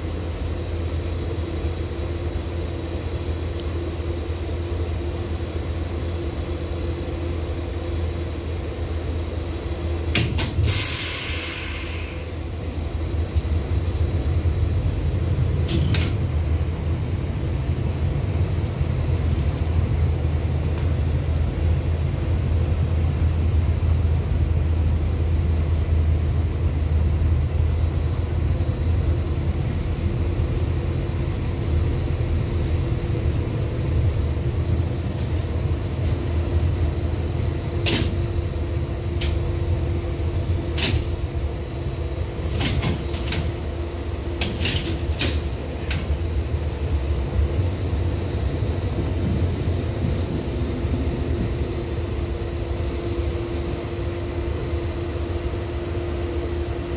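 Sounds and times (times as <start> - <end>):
tram rumbling on track: 0.0 - 56.9.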